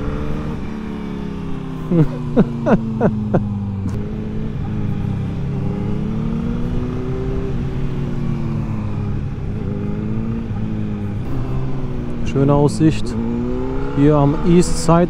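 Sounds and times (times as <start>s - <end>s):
motorcycle engine revving: 0.0s - 15.0s
motorcycles running steadily: 0.0s - 15.0s.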